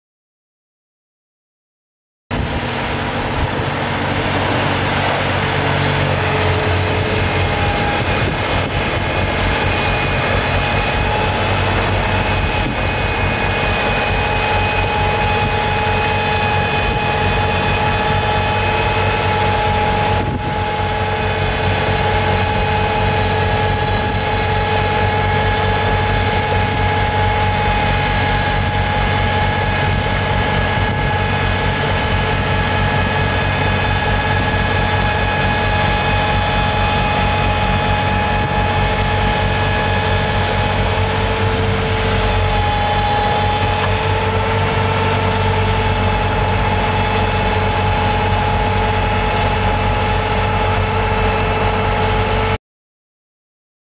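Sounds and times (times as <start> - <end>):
snowblower high whine: 2.3 - 52.6
tractor engine hum: 2.3 - 52.6.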